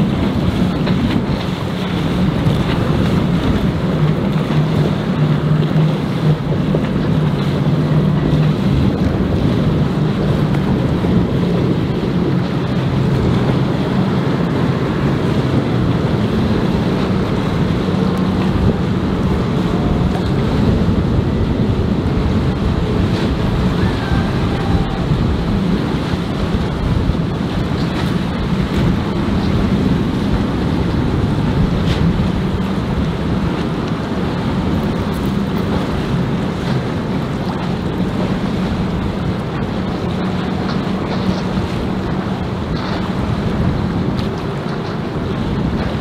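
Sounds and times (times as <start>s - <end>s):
outboard motor hum: 0.0s - 46.0s
water washing: 0.0s - 46.0s
wind noise on microphone: 0.0s - 46.0s.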